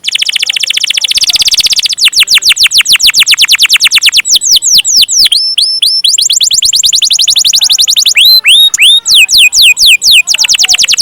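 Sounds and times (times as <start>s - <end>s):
canary singing trills: 0.0s - 11.0s.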